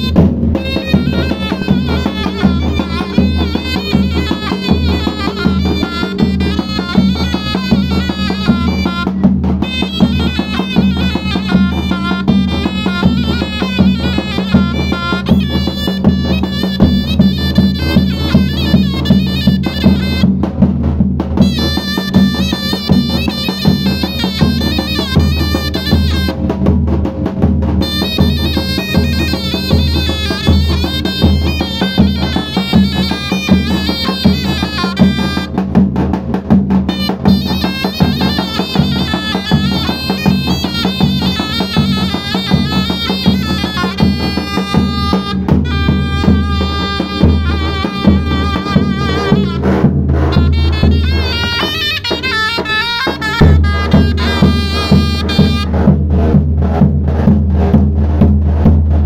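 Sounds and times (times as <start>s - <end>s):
shrill double-reed pipe melody: 0.0s - 20.5s, 21.4s - 26.4s, 27.8s - 35.7s, 36.9s - 56.0s
large bass drum beat: 0.0s - 59.0s.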